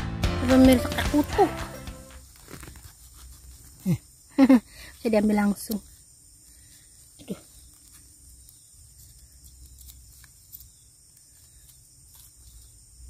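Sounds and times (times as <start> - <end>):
high-pitched insect chorus: 0.4 - 13.0.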